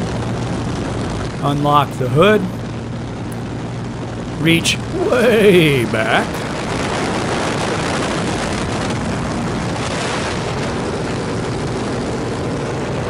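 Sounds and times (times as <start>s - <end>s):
aircraft engine running steadily: 0.0s - 13.0s.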